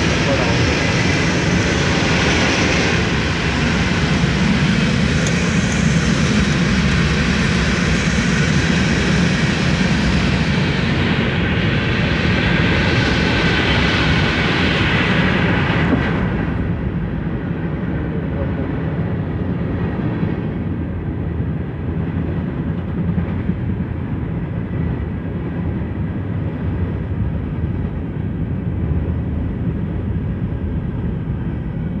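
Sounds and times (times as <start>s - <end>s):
freight cars rumbling on rails: 0.0s - 32.0s.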